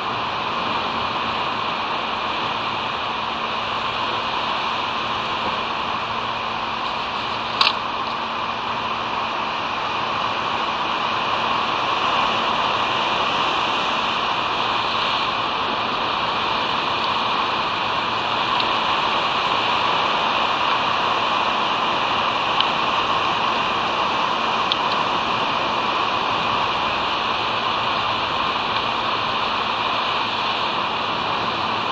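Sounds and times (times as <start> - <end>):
surf: 0.0 - 31.9
wind: 0.0 - 31.9.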